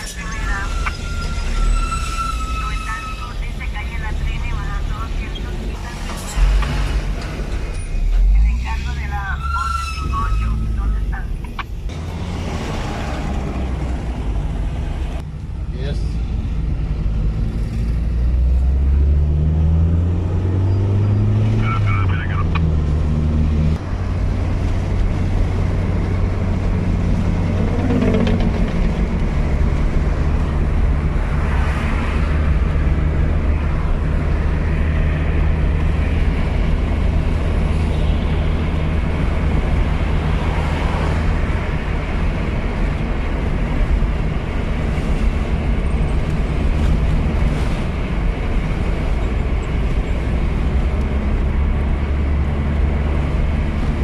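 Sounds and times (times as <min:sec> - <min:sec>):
car engine drone: 0:02.6 - 0:54.0.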